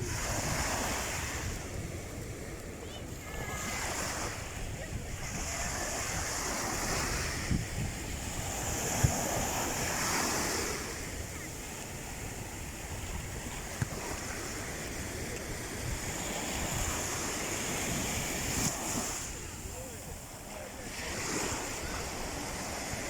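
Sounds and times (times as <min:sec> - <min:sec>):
sea waves breaking: 0:00.0 - 0:23.0
wind on microphone: 0:00.0 - 0:23.0.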